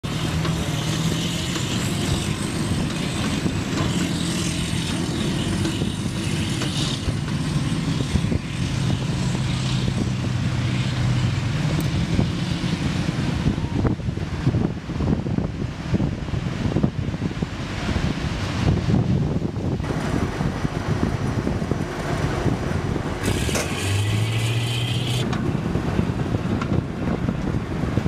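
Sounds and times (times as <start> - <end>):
diesel engine running hard: 0.0 - 28.0.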